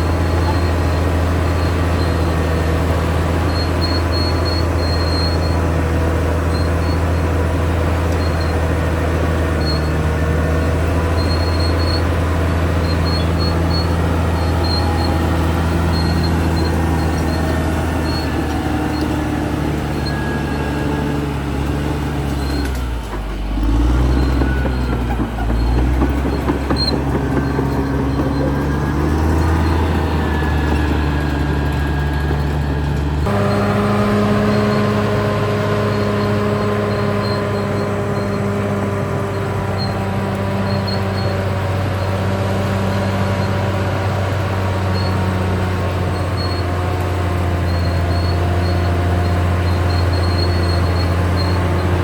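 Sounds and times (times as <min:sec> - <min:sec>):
bulldozer diesel engine running: 0:00.0 - 0:52.0
track squeaks: 0:00.0 - 0:52.0.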